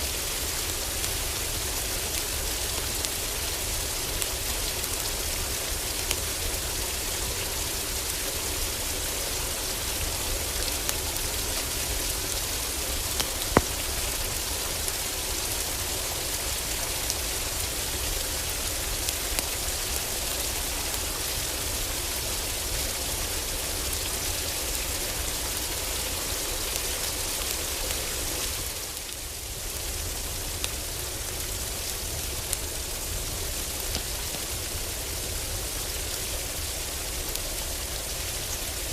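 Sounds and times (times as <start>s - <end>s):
heavy rain drumming on roof: 0.0s - 38.9s
wood fire crackling: 0.1s - 21.9s, 25.8s - 38.9s.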